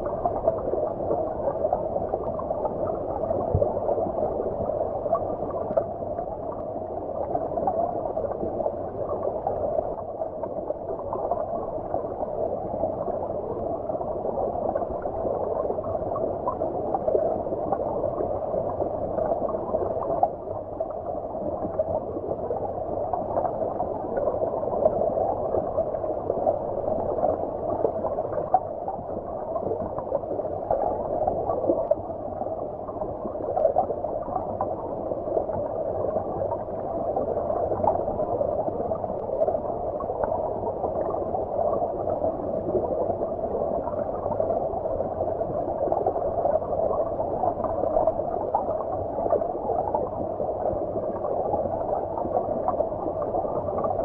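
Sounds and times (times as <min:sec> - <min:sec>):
muffled underwater stream rush: 0:00.0 - 0:54.0
water bubbling: 0:00.0 - 0:54.0.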